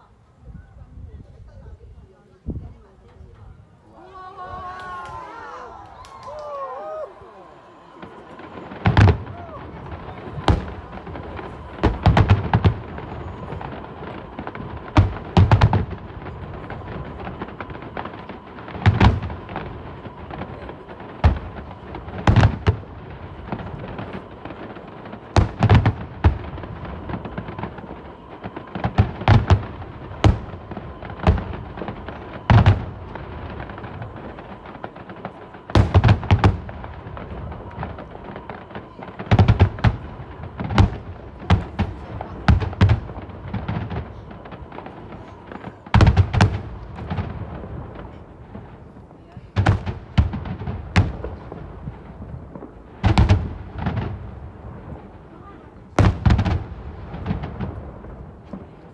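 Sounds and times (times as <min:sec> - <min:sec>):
steady background noise: 0:02.0 - 0:49.2
fireworks bursting with bangs: 0:04.1 - 0:58.9.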